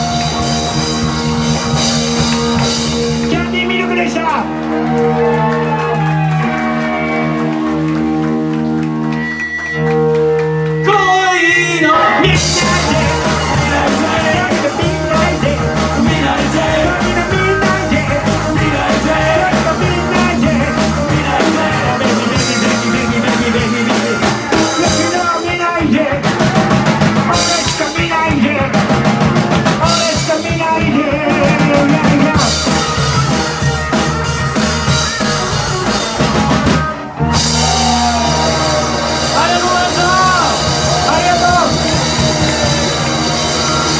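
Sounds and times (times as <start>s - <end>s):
drums and cymbals: 0.0s - 3.8s, 12.2s - 43.9s
rock band playing live: 0.0s - 43.9s.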